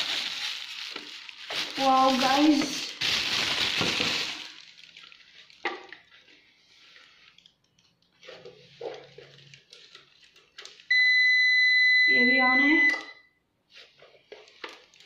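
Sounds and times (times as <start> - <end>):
plastic wrapping rustling: 0.0 - 10.9, 13.7 - 15.0.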